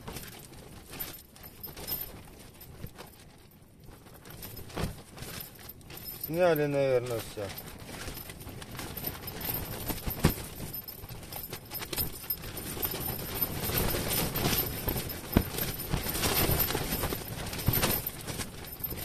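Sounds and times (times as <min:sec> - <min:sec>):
tent fabric rustling in wind: 0:00.0 - 0:19.0.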